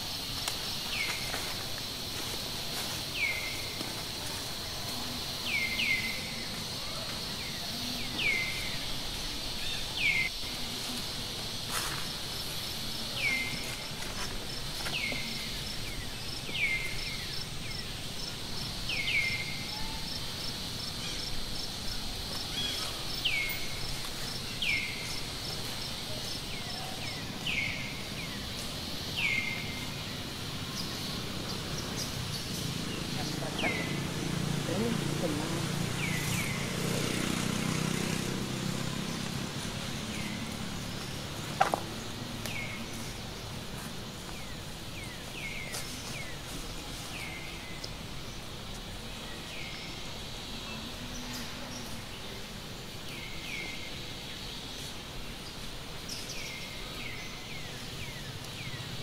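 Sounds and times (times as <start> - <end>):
high insect drone: 0.0 - 59.0.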